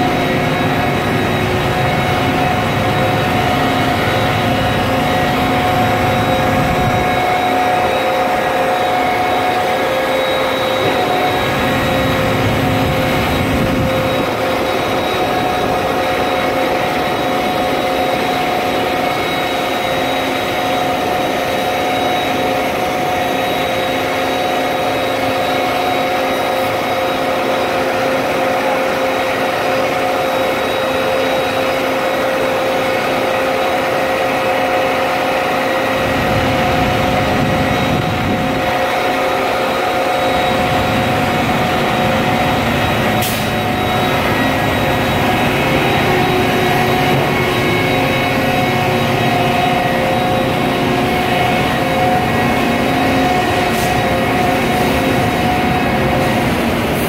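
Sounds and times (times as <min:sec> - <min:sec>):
diesel machinery whining: 0:00.0 - 0:57.0.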